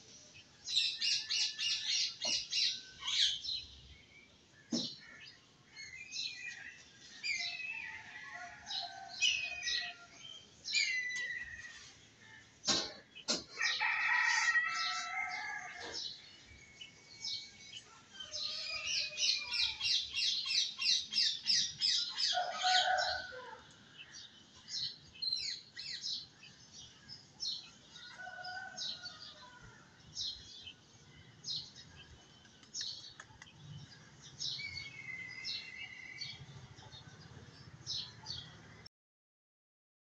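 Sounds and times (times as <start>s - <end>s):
small birds chirping: 0.0s - 8.2s, 8.8s - 38.9s.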